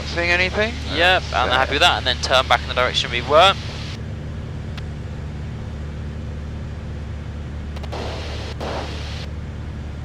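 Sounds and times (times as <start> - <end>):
light aircraft engine droning: 0.0 - 10.0.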